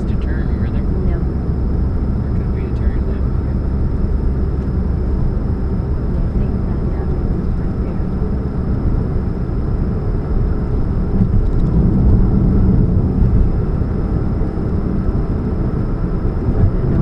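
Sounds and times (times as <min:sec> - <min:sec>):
car engine rumble and hum: 0:00.0 - 0:17.0.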